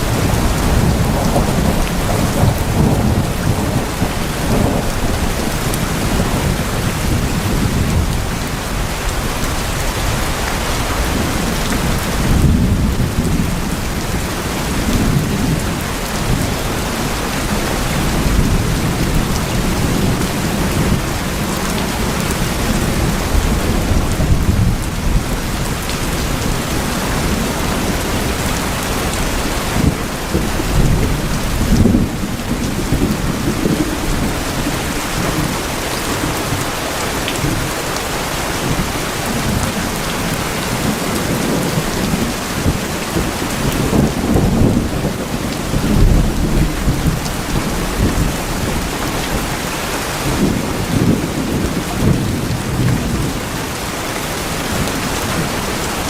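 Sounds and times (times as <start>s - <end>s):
heavy rain on metal roofs: 0.0s - 56.0s.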